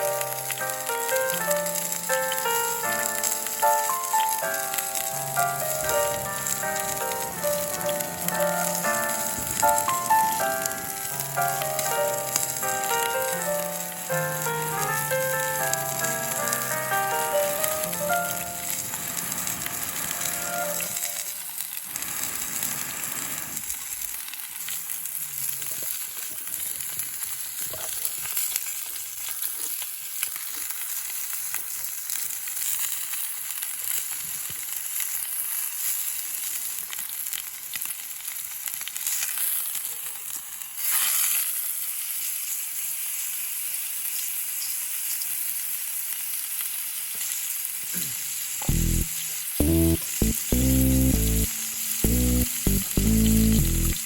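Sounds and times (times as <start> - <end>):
steak sizzling in frying pan: 0.0 - 54.0.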